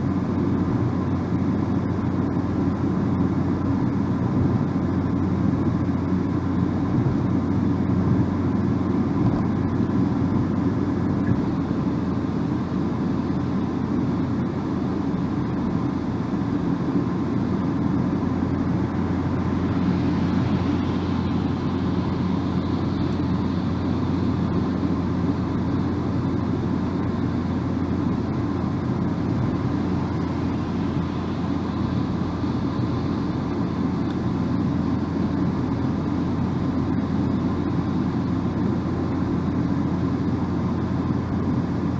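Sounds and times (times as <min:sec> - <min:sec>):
car engine droning: 0:00.0 - 0:41.9
road and tyre noise: 0:00.0 - 0:41.9.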